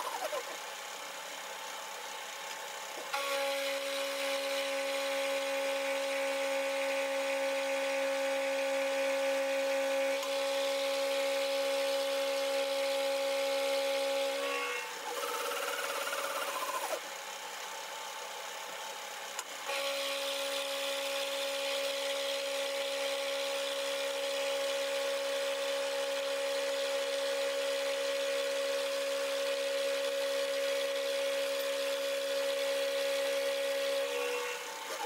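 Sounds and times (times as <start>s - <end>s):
milling machine whine: 0.0s - 1.3s, 2.9s - 17.2s, 19.4s - 35.0s.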